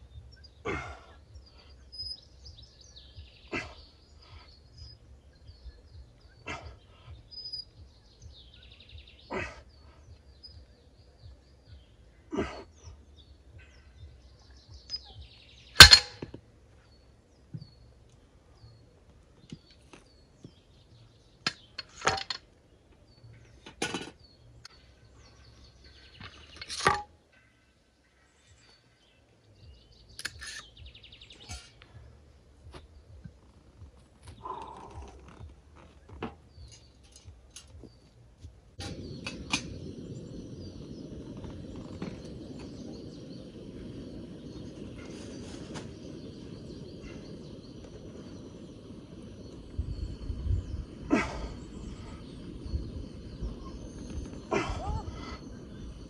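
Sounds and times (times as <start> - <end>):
birds chirping faintly: 0.0 - 56.0.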